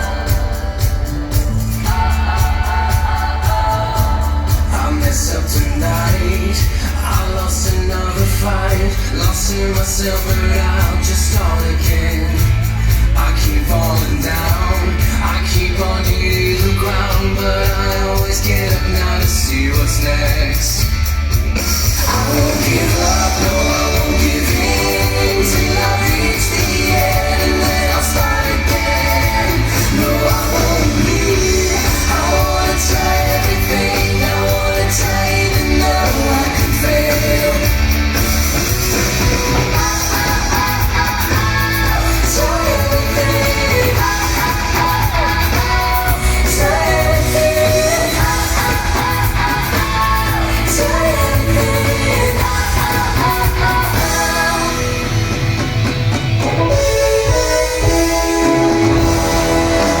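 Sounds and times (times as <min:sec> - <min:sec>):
pop-rock song with singer: 0:00.0 - 1:00.0.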